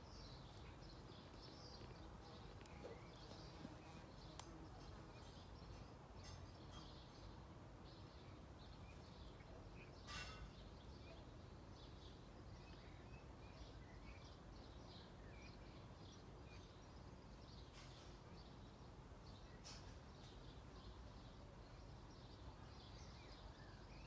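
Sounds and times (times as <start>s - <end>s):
distant birds chirping: 0.0s - 24.0s
low steady background noise: 0.0s - 24.0s.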